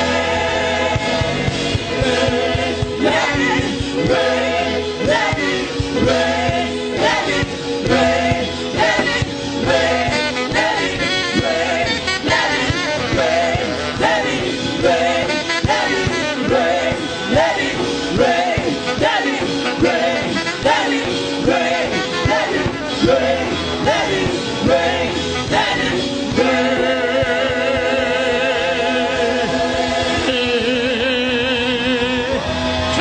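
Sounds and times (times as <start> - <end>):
band with steady beat: 0.0 - 28.4
people singing: 0.0 - 33.0.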